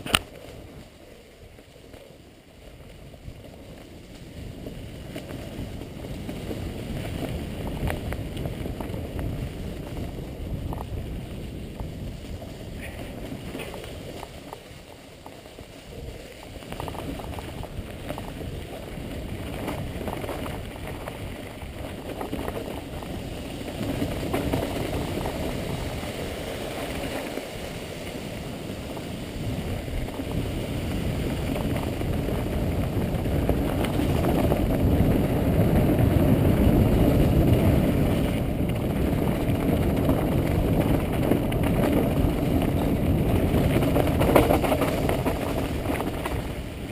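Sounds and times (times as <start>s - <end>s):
bike rattling over bumps: 0.0s - 46.9s
bike tyres rumbling on dirt: 0.0s - 46.9s
wind noise on microphone: 0.0s - 46.9s.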